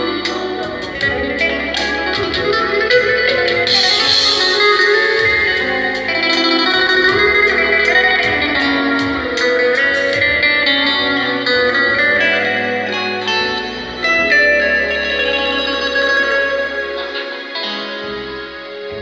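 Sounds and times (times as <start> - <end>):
electronic keyboard: 0.0 - 19.0
saz plucked melody: 0.0 - 19.0.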